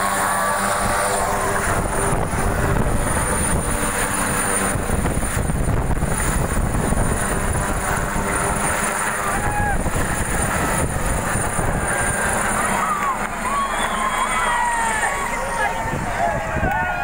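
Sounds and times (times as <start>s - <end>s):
helicopter rotor and turbine: 0.0s - 17.0s.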